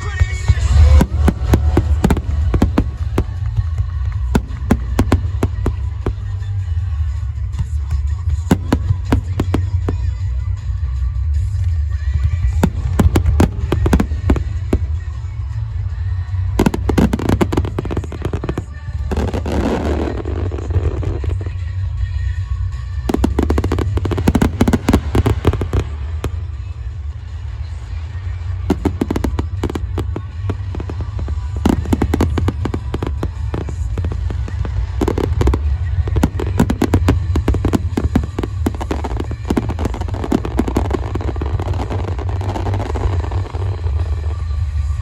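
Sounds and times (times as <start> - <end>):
fireworks cracking and banging: 0.0 - 45.0
low booming rumble: 0.0 - 45.0.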